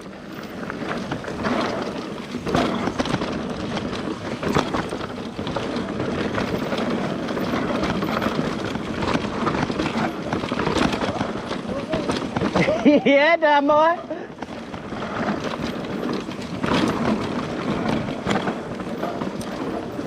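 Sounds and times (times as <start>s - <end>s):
bike rattling over bumps: 0.0s - 20.0s
tyres rumbling over dirt: 0.0s - 20.0s.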